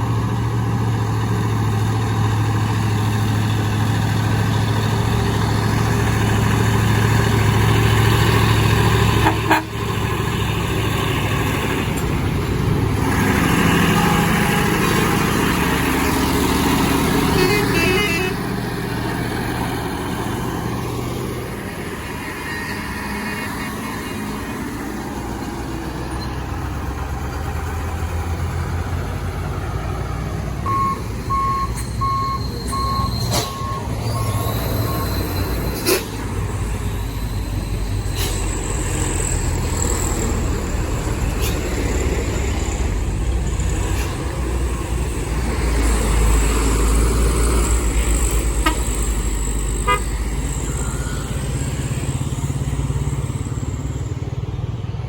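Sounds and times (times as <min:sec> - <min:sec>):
diesel truck engines under load: 0:00.0 - 0:55.0.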